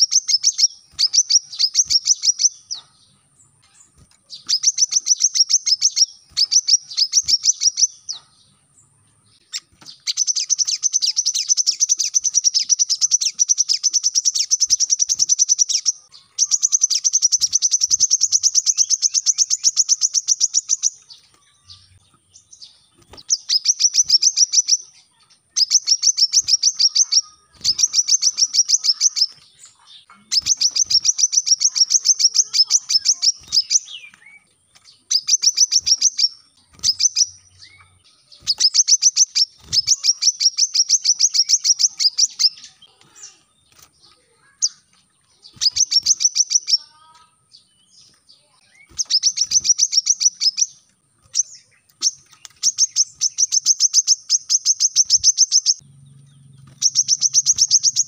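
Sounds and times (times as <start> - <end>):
bird singing high chip notes: 0.0 - 58.0.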